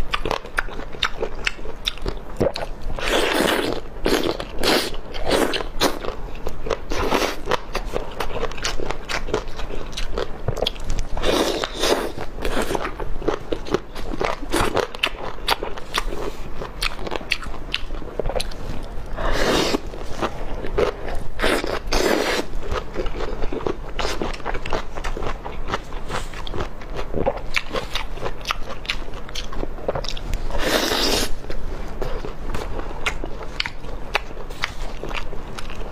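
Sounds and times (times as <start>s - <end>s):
chewing crunchy food: 0.0s - 35.9s.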